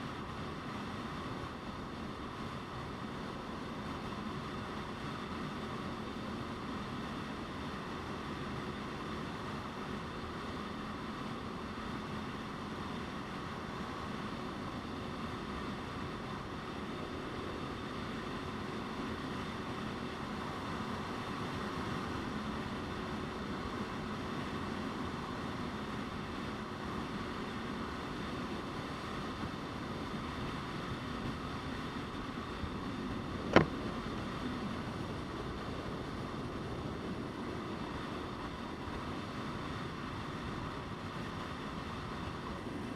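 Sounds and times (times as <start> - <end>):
faint engine hum: 0.0 - 42.9
wind and road noise: 0.0 - 42.9.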